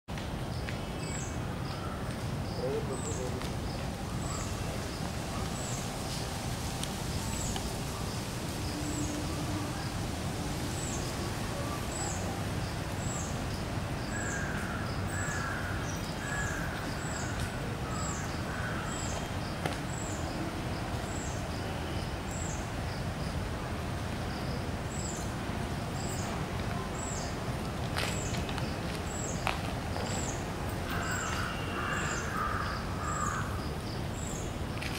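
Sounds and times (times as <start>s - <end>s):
steady low hiss: 0.1s - 34.9s.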